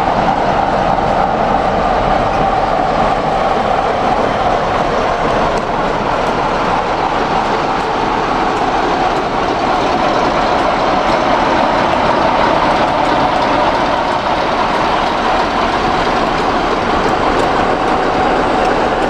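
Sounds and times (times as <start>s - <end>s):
diesel locomotive passing: 0.0s - 19.0s.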